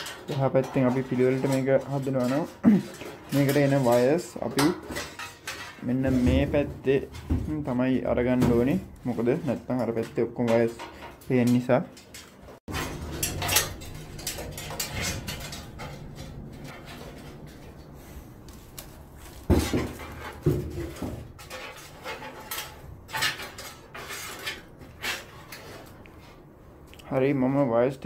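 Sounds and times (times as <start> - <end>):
rustling and scraping: 0.0 - 27.6.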